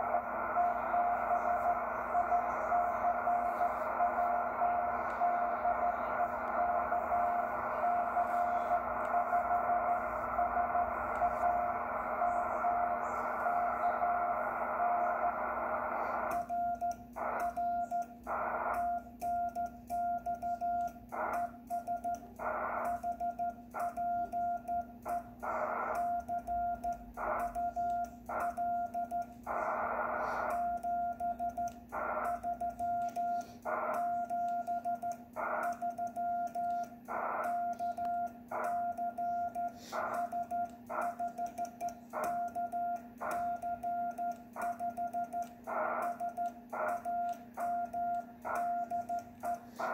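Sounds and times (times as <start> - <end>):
receiver hiss: 0.0 - 19.9, 24.9 - 41.2, 45.5 - 49.9
morse code beeping tone: 0.0 - 49.9
steady low hum: 0.0 - 49.9.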